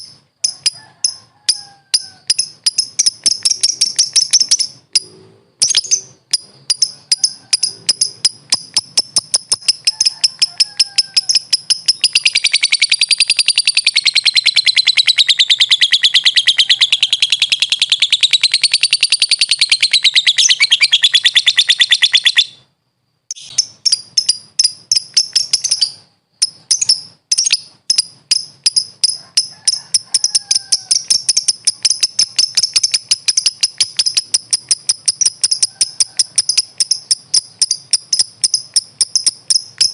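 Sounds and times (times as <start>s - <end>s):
bird chirping: 0.0s - 22.7s, 23.3s - 39.9s
bird fast trill: 0.0s - 22.7s, 23.3s - 39.9s.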